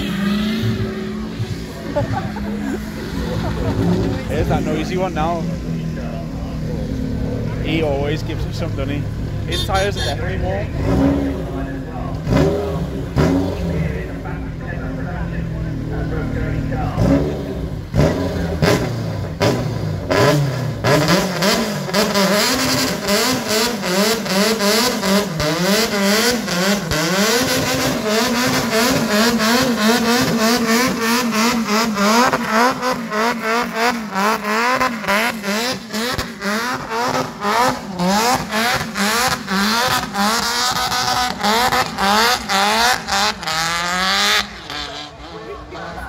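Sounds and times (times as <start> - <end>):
car engine revving hard: 0.0 - 46.0.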